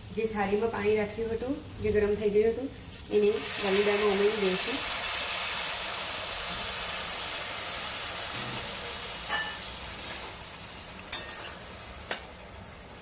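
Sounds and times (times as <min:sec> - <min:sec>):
hot water sizzling in pan: 0:00.0 - 0:13.0.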